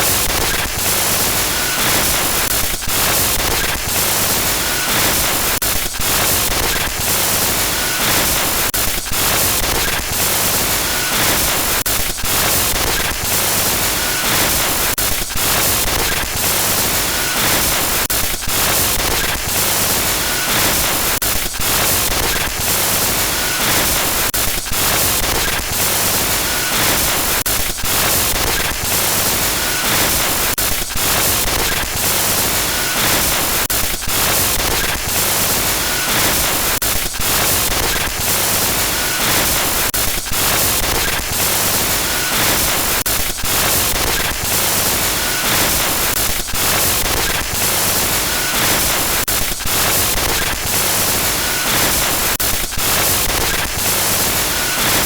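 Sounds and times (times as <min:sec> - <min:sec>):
harsh static hiss: 0:00.0 - 0:55.0.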